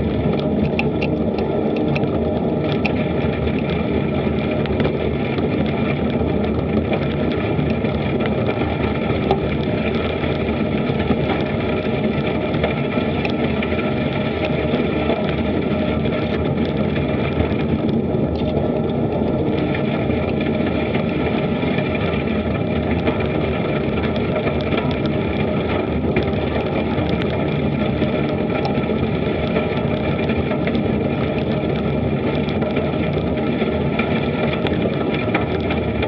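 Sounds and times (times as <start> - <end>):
tyres rolling over gravel: 0.0 - 36.0
wind on microphone: 0.0 - 36.0.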